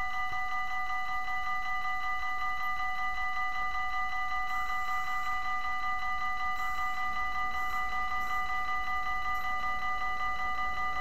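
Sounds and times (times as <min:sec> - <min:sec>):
steady ringing tone: 0:00.0 - 0:11.0.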